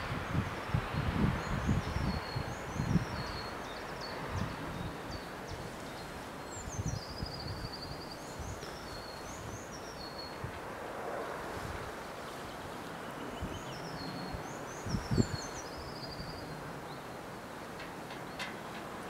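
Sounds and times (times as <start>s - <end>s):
songbirds chirping: 0.0s - 19.0s
wind buffeting microphone: 0.0s - 19.0s.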